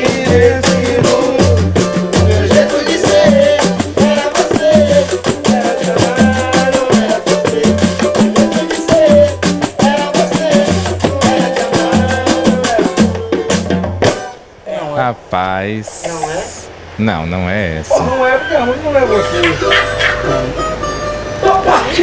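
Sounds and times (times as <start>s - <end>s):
upbeat music: 0.0s - 14.4s, 17.9s - 22.0s.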